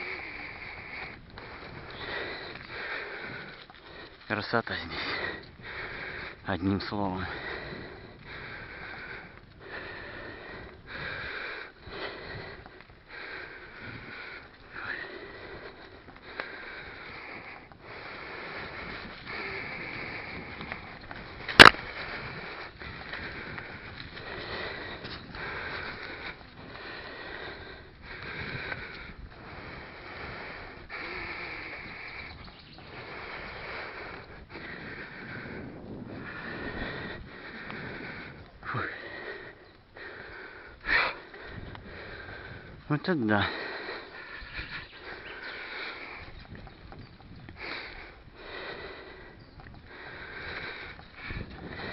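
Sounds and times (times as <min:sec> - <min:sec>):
cyclist breathing hard: 0:00.0 - 0:51.9.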